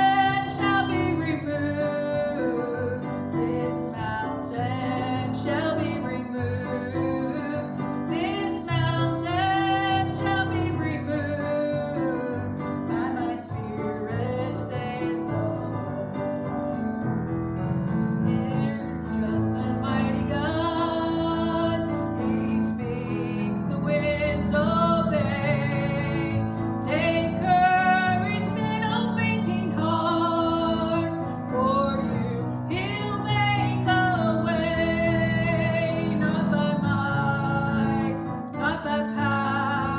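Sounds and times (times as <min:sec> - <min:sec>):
piano accompaniment: 0:00.0 - 0:39.9.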